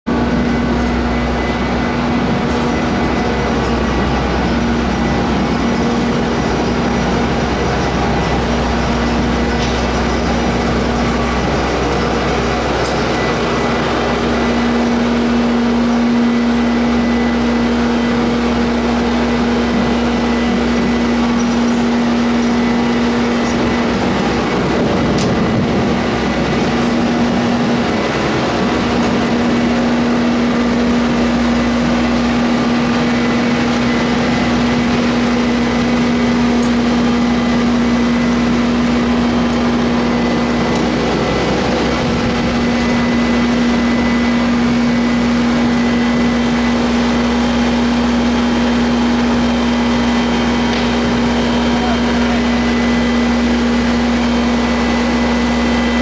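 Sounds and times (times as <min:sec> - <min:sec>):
diesel engine humming: 0:00.1 - 0:56.0.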